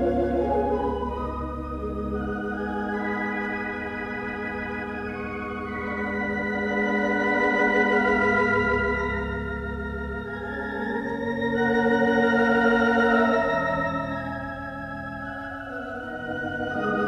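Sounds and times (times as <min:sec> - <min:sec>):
theatre organ chords: 0:00.0 - 0:17.0.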